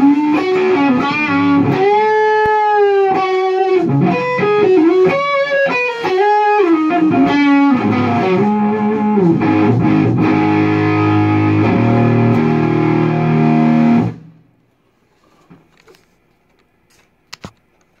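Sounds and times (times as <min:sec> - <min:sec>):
distorted electric guitar: 0:00.0 - 0:14.5.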